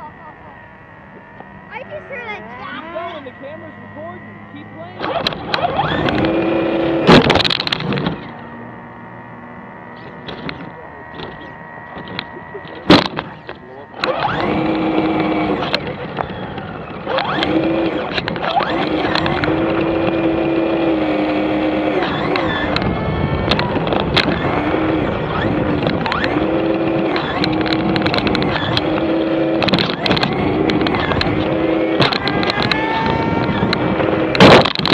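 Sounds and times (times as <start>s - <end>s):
electric motor whining: 0.0s - 34.9s.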